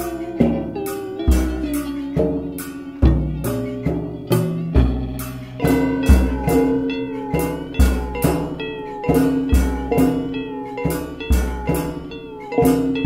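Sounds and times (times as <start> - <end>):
drum beat with heavy kick: 0.0 - 13.0
sustained instrument tones: 0.0 - 13.0.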